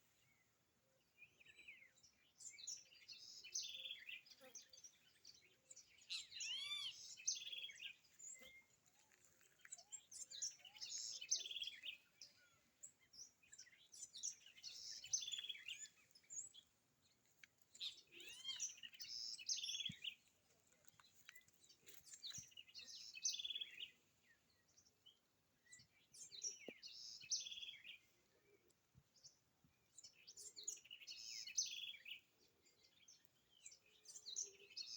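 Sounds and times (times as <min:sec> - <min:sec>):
songbird chirping: 0:00.0 - 0:34.9.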